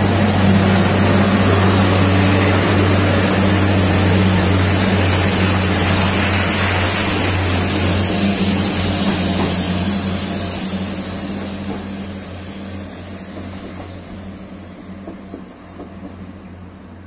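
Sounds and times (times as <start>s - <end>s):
train engine hum and hiss: 0.0s - 17.0s.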